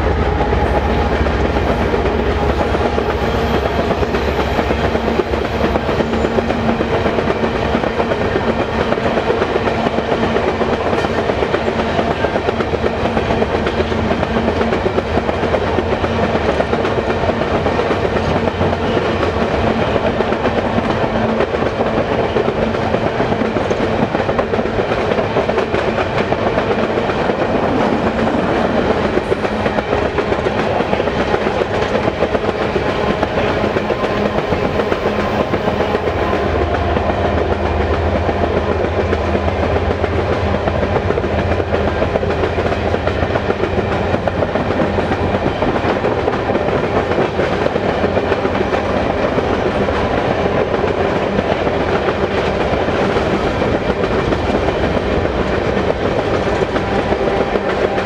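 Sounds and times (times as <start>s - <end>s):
diesel locomotive engine drone: 0.0s - 58.0s
train wheels rattling on rails: 0.0s - 58.0s.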